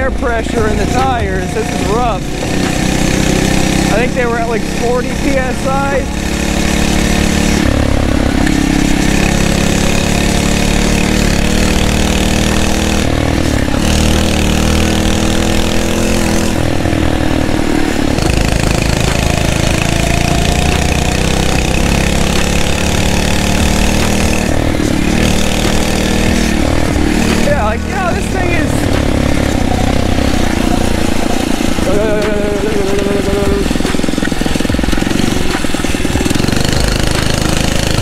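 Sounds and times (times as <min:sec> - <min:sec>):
small motorbike engine revving: 0:00.0 - 0:38.0.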